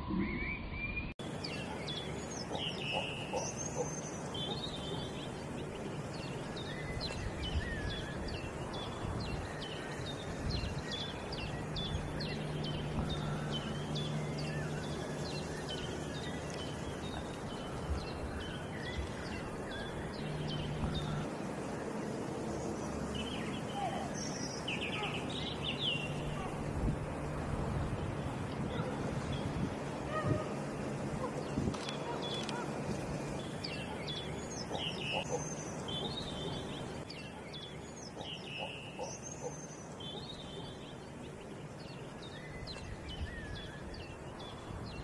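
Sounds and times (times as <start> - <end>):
bird chirping: 0.0 - 26.7, 27.9 - 45.0
steady rushing noise: 1.2 - 45.0.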